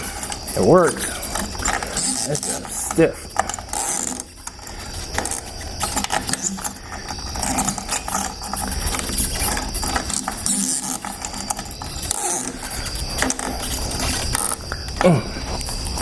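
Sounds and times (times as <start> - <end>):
lock mechanism clicking and scraping: 0.0 - 16.0.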